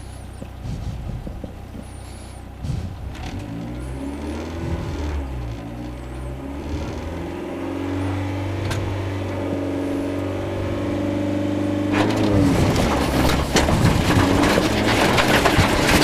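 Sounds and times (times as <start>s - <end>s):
car engine revving: 0.0s - 16.0s
gravel and tyre noise: 0.0s - 16.0s.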